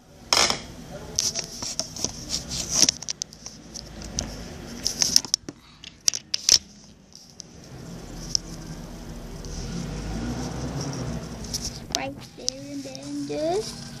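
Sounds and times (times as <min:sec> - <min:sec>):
scratchy rustles: 0:01.2 - 0:05.3, 0:06.4 - 0:14.0.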